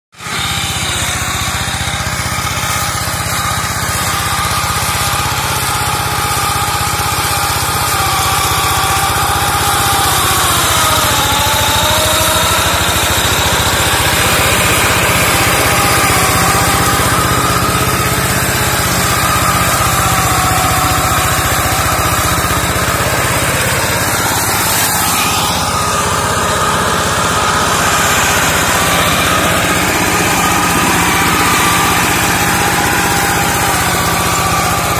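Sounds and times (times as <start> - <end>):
diesel engine running under load: 0.2 - 34.9.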